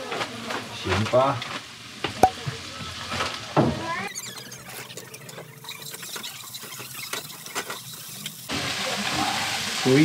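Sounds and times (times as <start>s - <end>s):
noodles sizzling in wok: 0.0s - 10.0s.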